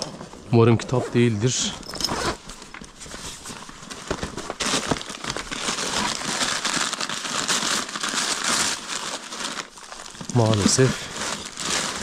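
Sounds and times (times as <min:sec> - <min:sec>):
papers and books rustling: 0:00.0 - 0:12.0.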